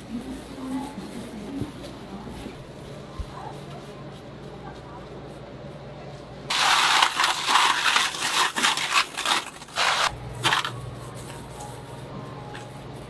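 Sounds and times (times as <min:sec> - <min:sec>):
low steady hum: 0:00.0 - 0:13.0
rustling and scraping handling noise: 0:00.0 - 0:13.0.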